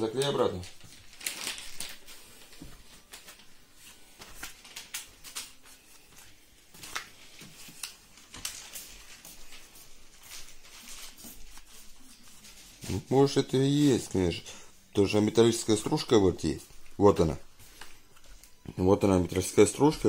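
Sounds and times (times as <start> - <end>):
wet wipe rustling: 0.2 - 18.6.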